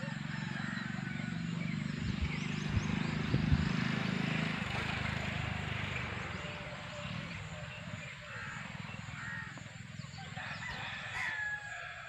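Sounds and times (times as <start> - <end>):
passing vehicle engine: 0.0 - 12.0.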